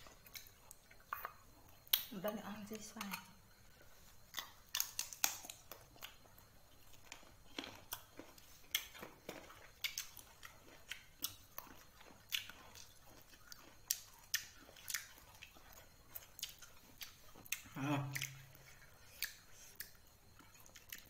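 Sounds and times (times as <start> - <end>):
chewing crunchy mango slices: 0.0 - 21.0.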